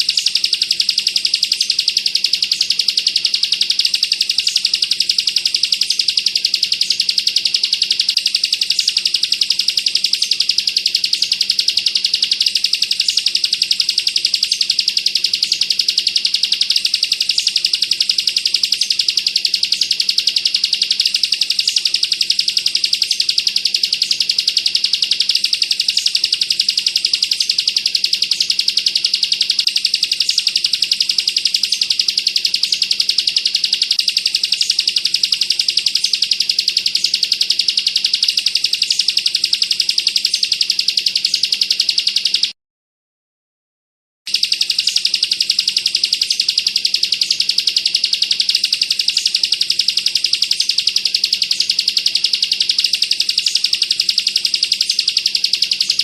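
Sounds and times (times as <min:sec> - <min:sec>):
bird singing rapid high trill: 0:00.0 - 0:42.6, 0:44.3 - 0:56.0.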